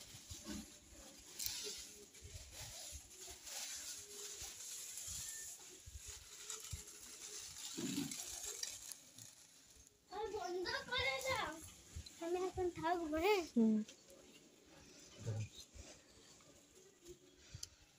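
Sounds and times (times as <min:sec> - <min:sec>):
dry leaves rustling and crackling: 0:00.0 - 0:14.4.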